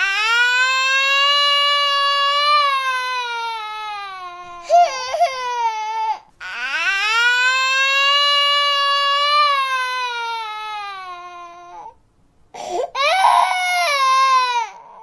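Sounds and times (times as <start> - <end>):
baby crying: 0.0 - 12.0, 12.6 - 15.0.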